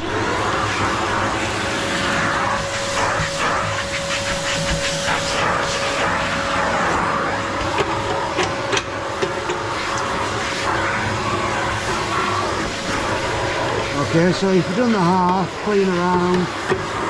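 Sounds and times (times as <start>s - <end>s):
vacuum cleaner whining: 0.0s - 17.0s.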